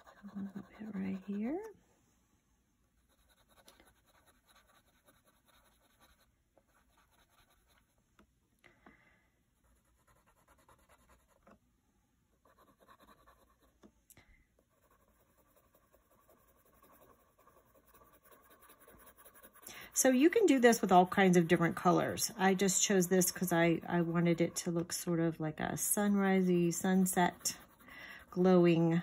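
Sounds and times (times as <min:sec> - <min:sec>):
colored pencil scratching paper: 0:00.0 - 0:01.8, 0:03.0 - 0:08.0, 0:09.6 - 0:11.6, 0:12.4 - 0:13.9, 0:14.6 - 0:25.0, 0:26.0 - 0:29.0.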